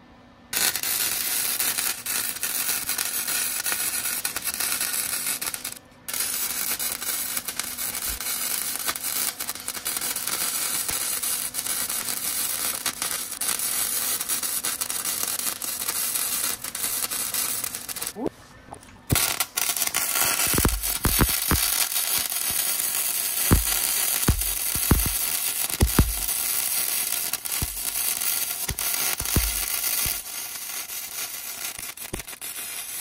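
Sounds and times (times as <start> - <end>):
welder arc crackling: 0.6 - 18.2, 19.1 - 33.0.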